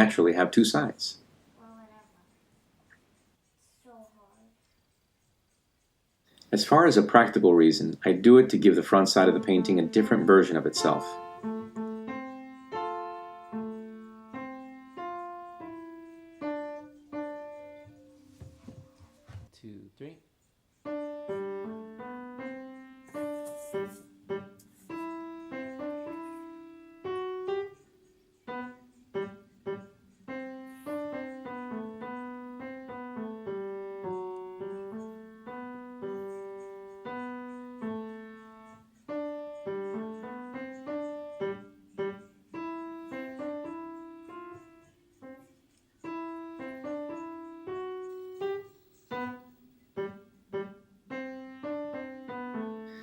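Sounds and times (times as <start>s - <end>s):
slow piano melody: 8.9s - 19.5s, 20.8s - 53.0s.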